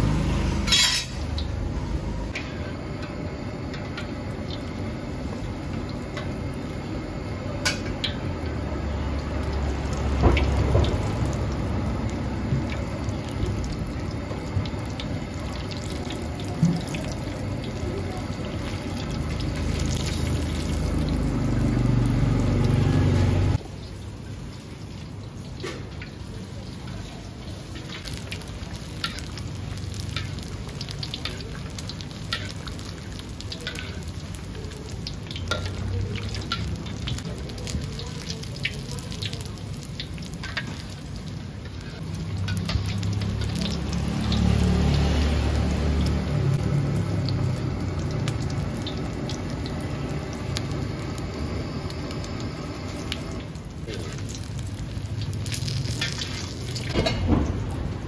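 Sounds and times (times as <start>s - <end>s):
pork sizzling in oil: 0.0s - 58.0s
oil crackling and popping: 2.3s - 58.0s.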